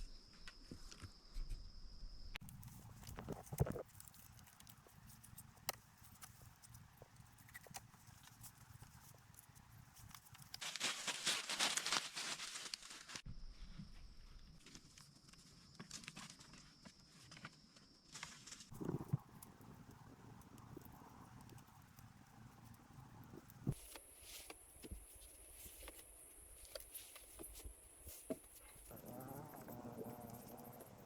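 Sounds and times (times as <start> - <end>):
rustling: 2.4 - 17.5, 18.1 - 31.0.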